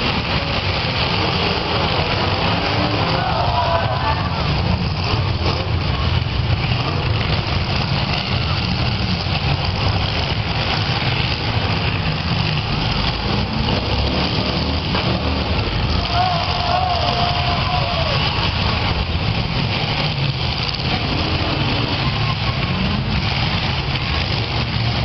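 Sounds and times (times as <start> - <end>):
car engines rumbling: 0.0 - 25.0.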